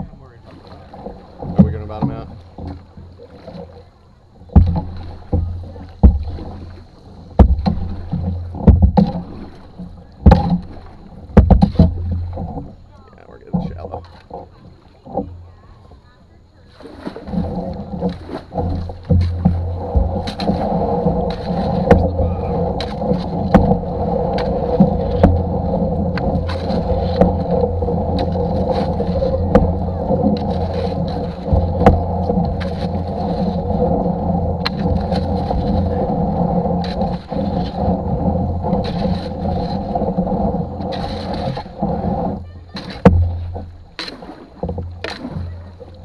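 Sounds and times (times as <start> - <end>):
droning hum: 0.0 - 46.0
paddle knocking canoe: 0.0 - 46.0.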